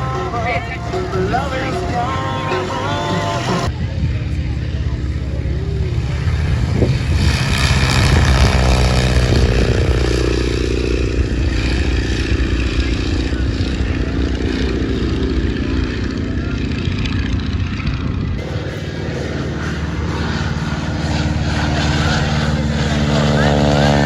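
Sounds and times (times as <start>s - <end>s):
biplane radial engine flying past: 0.0s - 24.0s.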